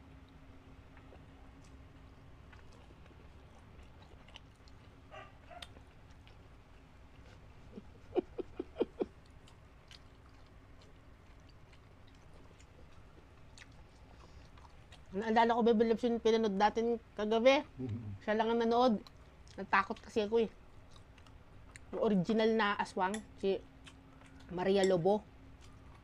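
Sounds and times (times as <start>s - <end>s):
quiet chewing: 0.0s - 15.4s, 18.9s - 22.4s, 23.1s - 26.0s.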